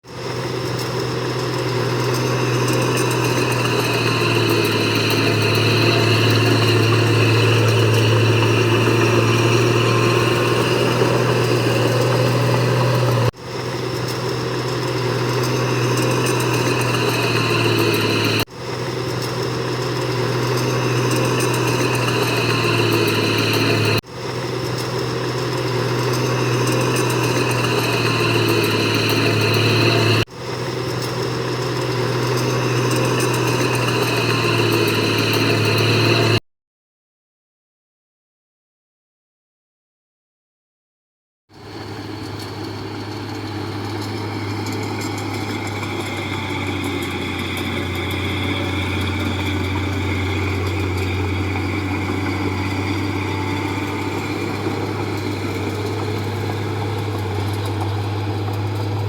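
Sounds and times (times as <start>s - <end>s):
diesel engine humming: 0.0s - 36.4s, 41.5s - 59.0s.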